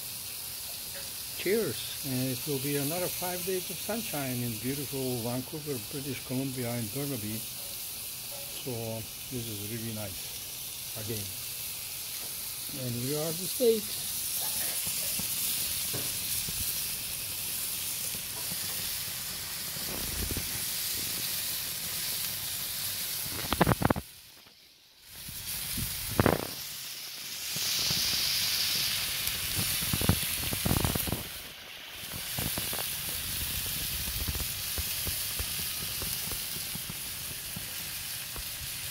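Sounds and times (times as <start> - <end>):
steaks sizzling on griddle: 0.0 - 38.9.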